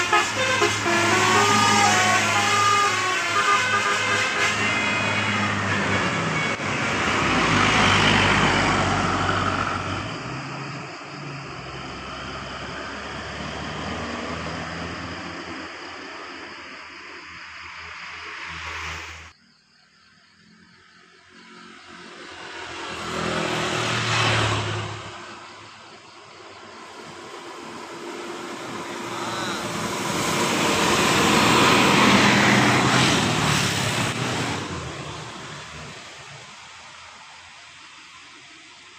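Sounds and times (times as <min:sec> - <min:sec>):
bus driving past: 0:00.0 - 0:16.8, 0:21.4 - 0:38.9.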